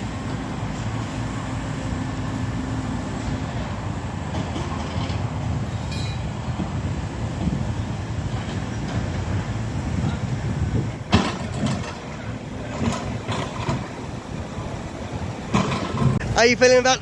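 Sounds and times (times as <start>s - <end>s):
heavy machinery rumbling: 0.0s - 17.0s.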